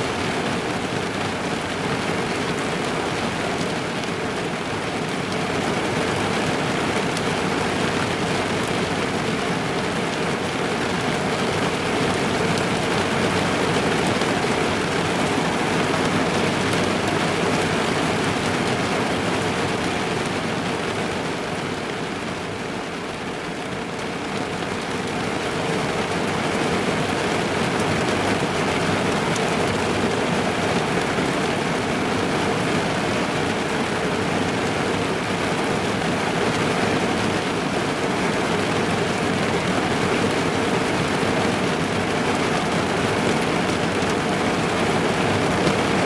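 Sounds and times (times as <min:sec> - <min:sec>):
rain drumming on a car roof: 0:00.0 - 0:46.0.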